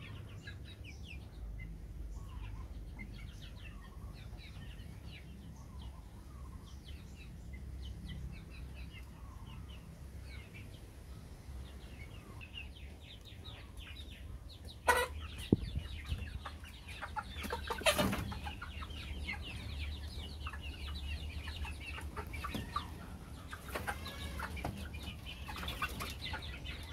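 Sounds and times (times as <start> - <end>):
chicks calling and clucking: 0.0 - 26.9.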